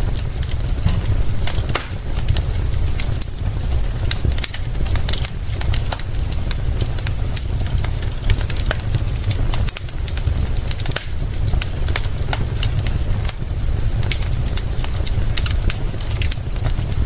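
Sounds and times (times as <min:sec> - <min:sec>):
deep rumble: 0:00.0 - 0:17.0
rain hissing: 0:00.0 - 0:17.0
wood fire crackling and popping: 0:00.0 - 0:17.0.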